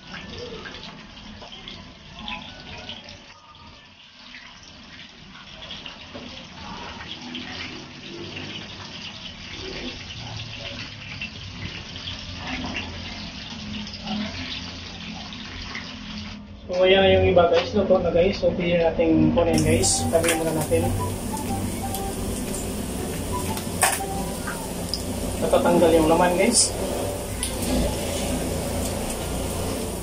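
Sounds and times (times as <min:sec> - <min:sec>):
fish frying in hot oil: 0:00.0 - 0:18.3, 0:19.6 - 0:30.0.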